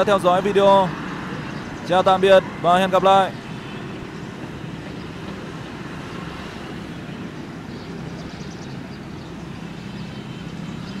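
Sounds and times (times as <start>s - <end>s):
engine hum: 0.0s - 11.0s.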